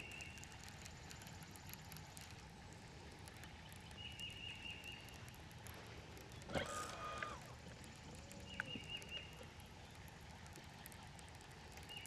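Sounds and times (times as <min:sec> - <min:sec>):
light ticks: 0:00.0 - 0:12.0.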